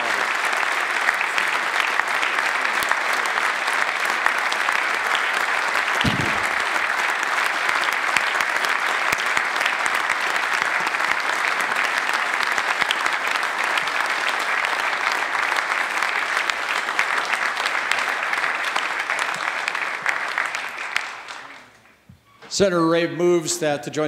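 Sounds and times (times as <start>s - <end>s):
crowd applauding: 0.0s - 22.0s.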